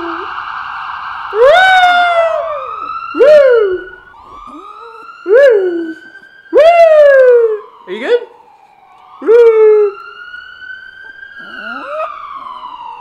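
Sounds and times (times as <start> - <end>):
ambulance siren wail: 0.0 - 13.0
siren whoops: 0.0 - 13.0.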